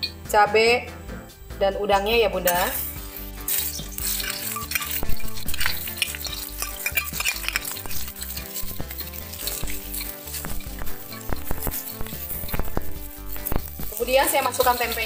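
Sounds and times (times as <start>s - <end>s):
food sizzling in hot oil: 2.4s - 15.0s
spatula scraping metal wok: 2.4s - 15.0s.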